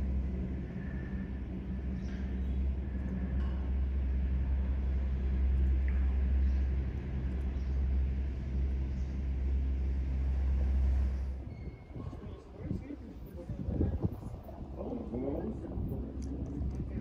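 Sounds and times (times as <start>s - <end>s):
machinery rumbling and humming: 0.0s - 17.0s.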